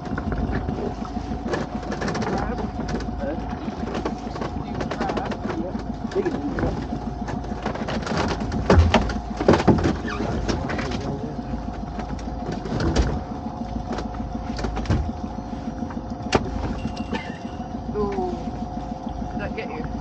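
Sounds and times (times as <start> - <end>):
pot hauler humming: 0.0 - 20.0.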